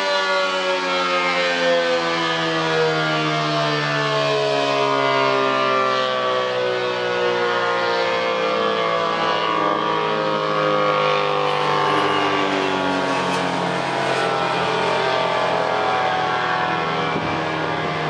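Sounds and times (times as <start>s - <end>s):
warning siren winding down: 0.0s - 18.0s.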